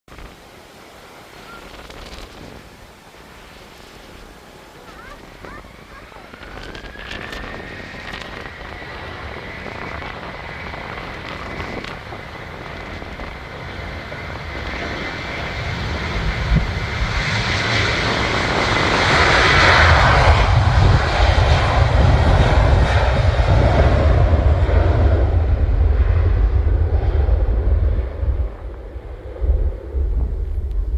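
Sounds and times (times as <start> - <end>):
jet engines whining: 0.3 - 30.6
deep engine rumble: 4.4 - 30.9.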